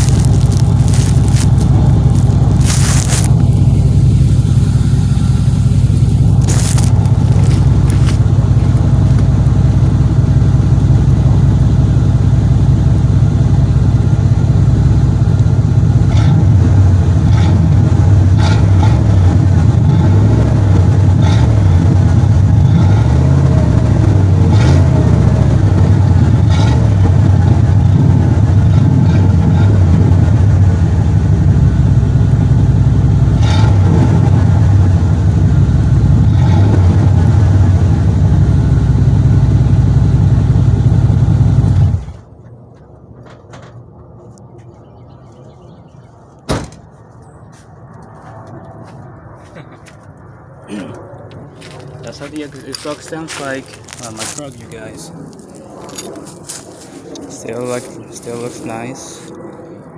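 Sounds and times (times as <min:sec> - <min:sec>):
engine exhaust rumble: 0:00.0 - 0:59.9.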